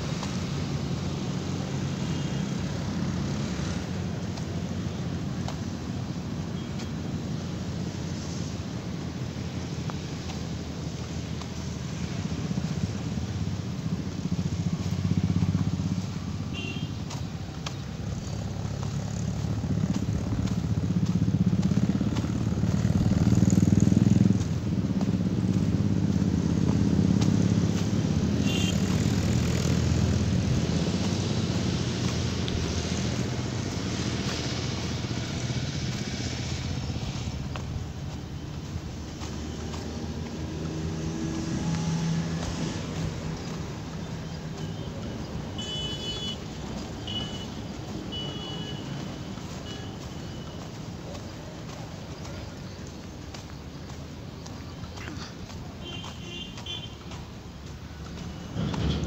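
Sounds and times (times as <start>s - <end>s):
motor vehicle engine rumble: 0.0s - 59.0s.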